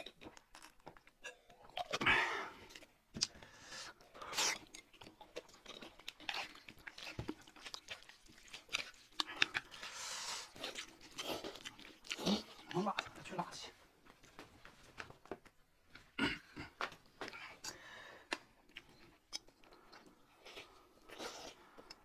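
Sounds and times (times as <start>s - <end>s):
chewing and slurping noodles: 0.0s - 13.4s, 17.3s - 22.0s.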